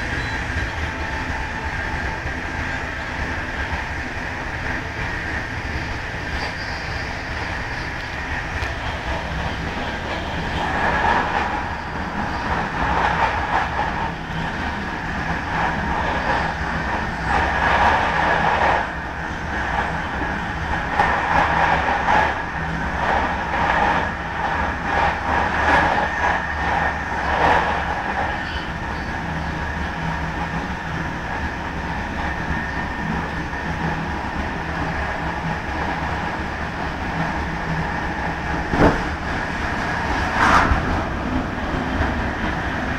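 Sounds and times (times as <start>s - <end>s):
train running on track: 0.0s - 42.9s.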